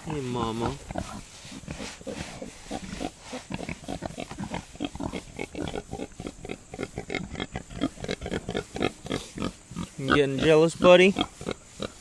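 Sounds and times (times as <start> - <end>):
pig grunting: 0.0 - 12.0.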